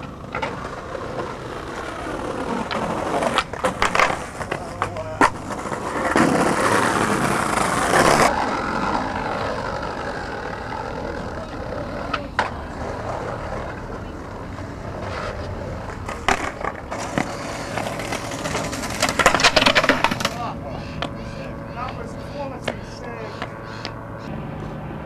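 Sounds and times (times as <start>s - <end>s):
skateboard tail clacks: 0.0s - 24.0s
skateboard wheels rolling on paving: 0.0s - 25.0s.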